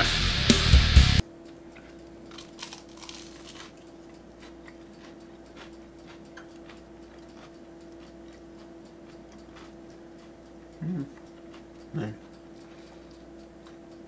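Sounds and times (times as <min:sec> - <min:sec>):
steady hum: 0:00.0 - 0:14.0
person chewing: 0:01.7 - 0:14.0.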